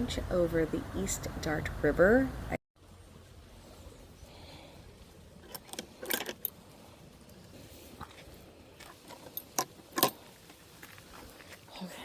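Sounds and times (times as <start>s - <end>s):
faint steady rush: 0.0s - 12.0s.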